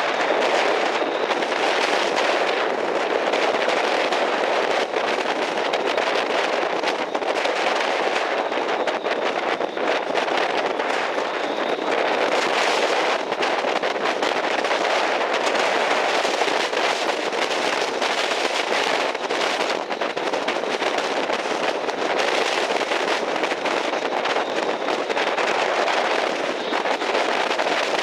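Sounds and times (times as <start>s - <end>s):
wind and surf rushing: 0.0s - 28.0s
wind gusts hitting microphone: 0.0s - 28.0s.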